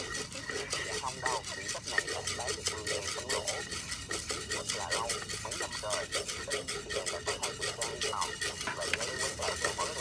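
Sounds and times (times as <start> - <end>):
wooden spatula stirring coffee beans: 0.0 - 10.0.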